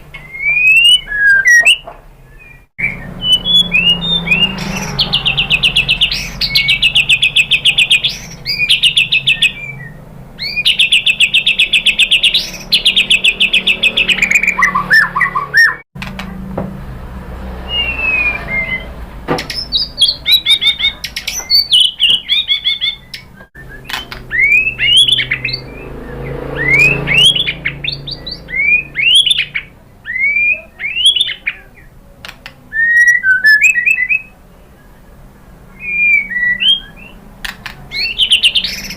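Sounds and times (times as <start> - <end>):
bird singing rapid trills: 0.0 - 15.8, 17.6 - 32.0, 32.8 - 38.9
bird whistled notes: 0.2 - 15.8, 17.7 - 31.6, 32.7 - 34.3, 35.7 - 37.2.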